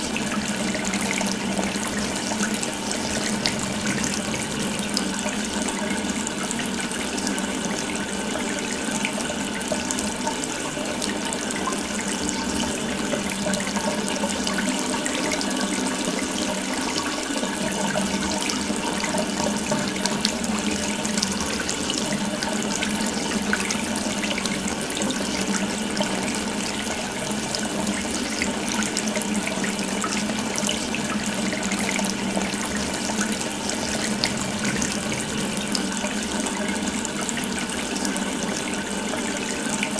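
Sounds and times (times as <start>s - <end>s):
water running from a faucet: 0.0s - 39.9s.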